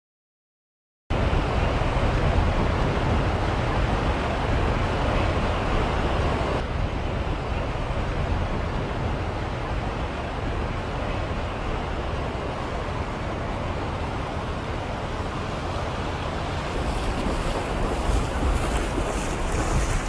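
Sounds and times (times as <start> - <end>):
wind buffeting microphone: 1.1 - 20.0
floodwater rushing: 1.2 - 20.0.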